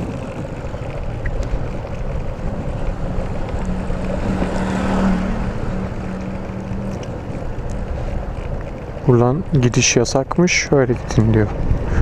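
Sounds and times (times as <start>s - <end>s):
scooter engine humming: 0.0s - 12.0s
wind noise on microphone: 0.0s - 12.0s.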